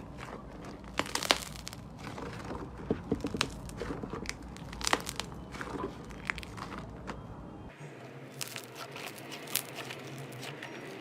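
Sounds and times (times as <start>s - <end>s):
slime crackling and popping: 0.2s - 7.0s, 8.3s - 10.7s.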